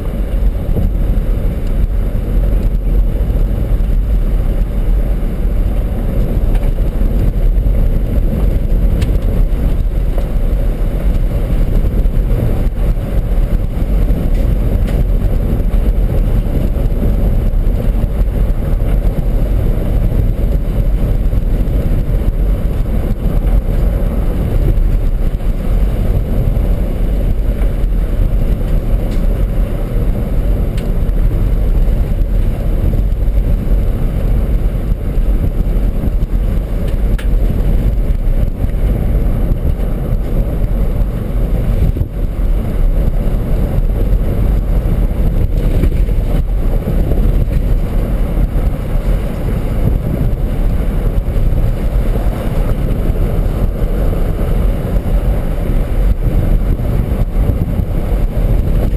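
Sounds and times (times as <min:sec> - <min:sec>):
engine and tyre rumble: 0:00.0 - 0:58.9.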